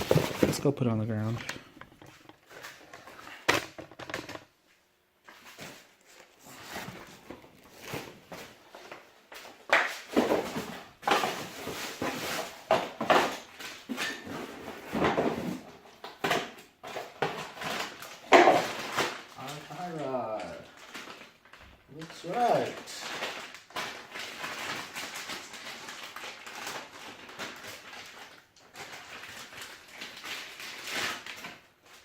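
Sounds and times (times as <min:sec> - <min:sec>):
car parts and packaging handled: 0:00.0 - 0:32.0.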